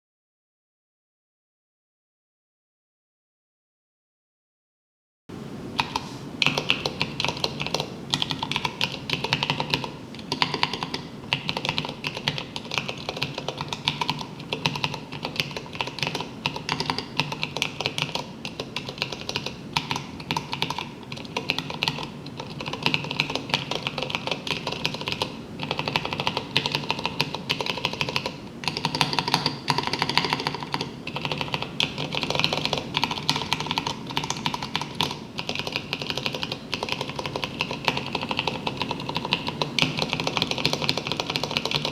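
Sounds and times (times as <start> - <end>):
fast mechanical keyboard typing: 5.8 - 41.9.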